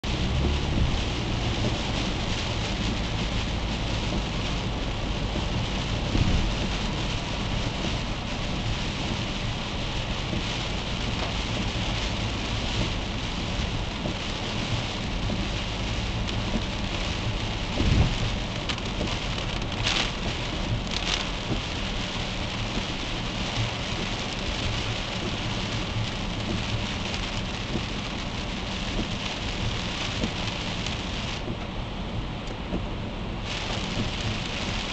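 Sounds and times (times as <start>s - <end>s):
heavy rain on car windshield: 0.0s - 34.9s
tyres hissing on wet road: 0.0s - 34.9s.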